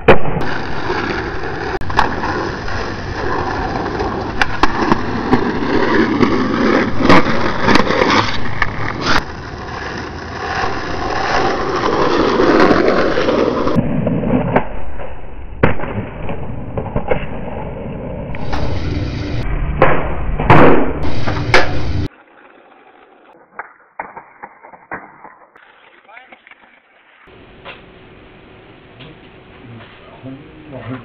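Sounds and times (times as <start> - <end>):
skateboard wheels rolling on asphalt: 0.0 - 19.4, 21.0 - 27.6.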